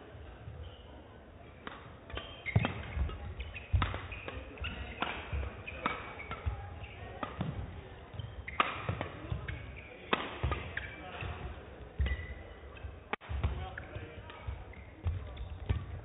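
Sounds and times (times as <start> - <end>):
shoes squeaking on court: 0.4 - 1.0, 1.6 - 13.1, 13.8 - 16.0
rackets striking shuttlecock: 1.6 - 16.0.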